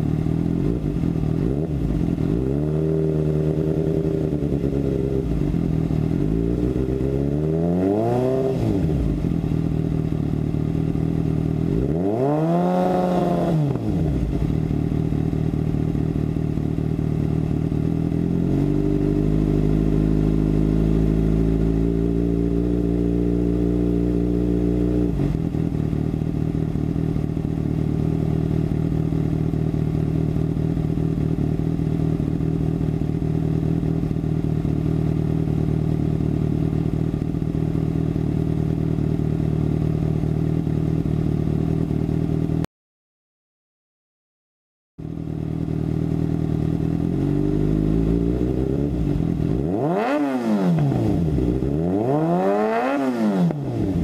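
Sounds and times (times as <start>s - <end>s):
motorcycle engine revving: 0.0s - 42.7s, 45.0s - 54.0s.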